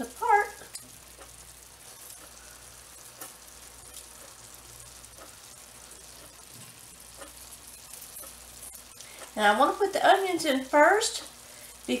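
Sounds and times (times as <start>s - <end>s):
steak sizzling in a pan: 0.0s - 12.0s.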